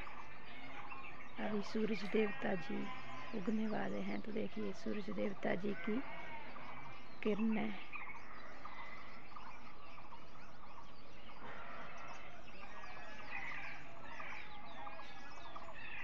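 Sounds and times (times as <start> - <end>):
small birds chirping and singing: 0.0 - 16.0.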